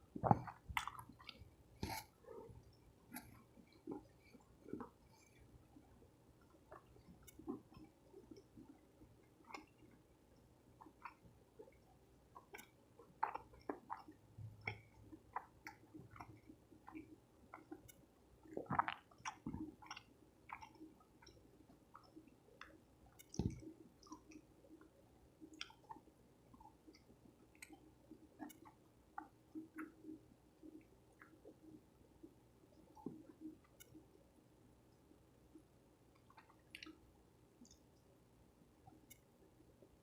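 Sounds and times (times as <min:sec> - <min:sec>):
person chewing with wet smacks: 0:00.0 - 0:34.2, 0:35.5 - 0:38.1.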